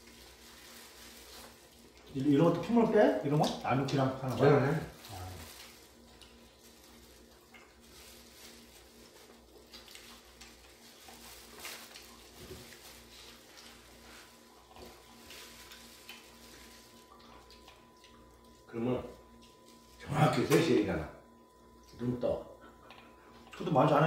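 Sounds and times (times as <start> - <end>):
plastic gloves crinkling: 0.0 - 20.8
faint steady hum: 0.0 - 24.0.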